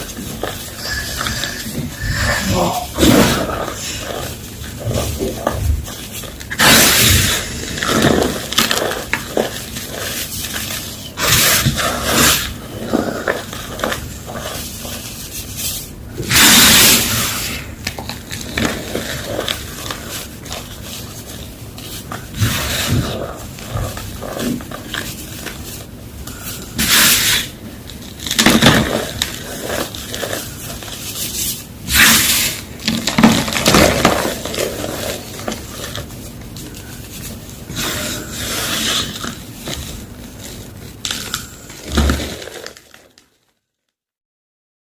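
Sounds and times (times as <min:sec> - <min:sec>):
chalk crumbling and scraping: 0:00.0 - 0:43.1.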